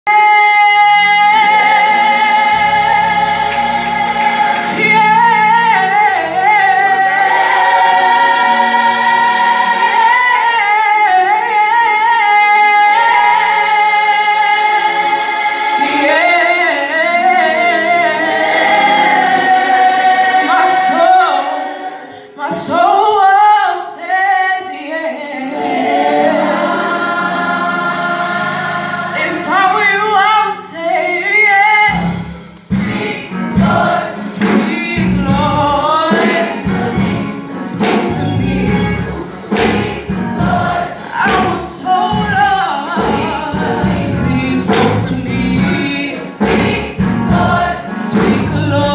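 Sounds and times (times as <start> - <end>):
voices singing with vibrato: 0.4 - 32.0, 32.8 - 48.9.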